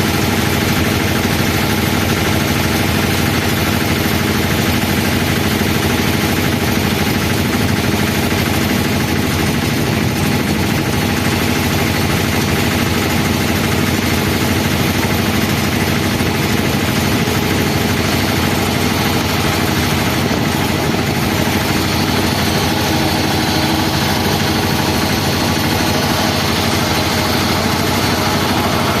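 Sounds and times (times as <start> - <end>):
aircraft engines idling: 0.0 - 29.0.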